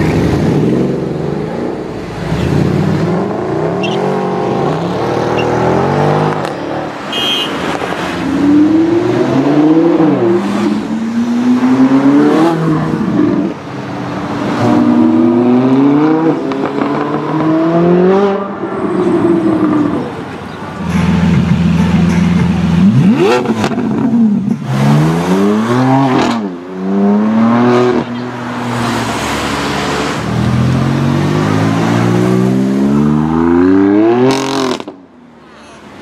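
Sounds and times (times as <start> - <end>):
car engines accelerating hard: 0.0 - 35.1.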